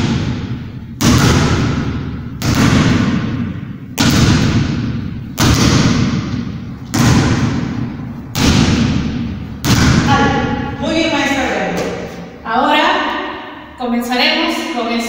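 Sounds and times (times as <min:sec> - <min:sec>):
basketballs thudding in echoing hall: 0:00.0 - 0:15.0.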